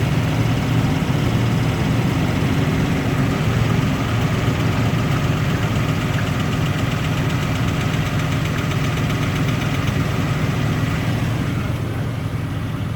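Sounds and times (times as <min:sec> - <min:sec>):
engine idling with light knocking: 0:00.0 - 0:12.9.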